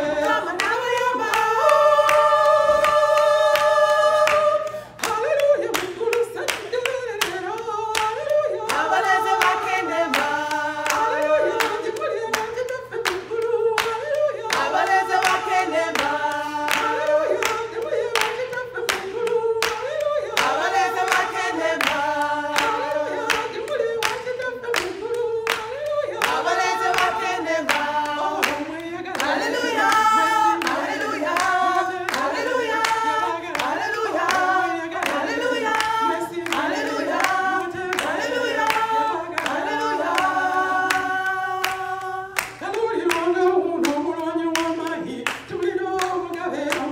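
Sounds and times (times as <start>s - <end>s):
women singing unaccompanied: 0.0s - 46.9s
hand claps: 0.1s - 46.9s.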